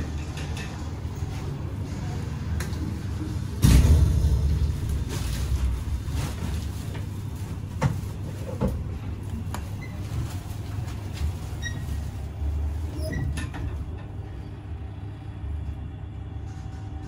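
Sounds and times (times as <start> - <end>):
elevator running: 0.0 - 17.0.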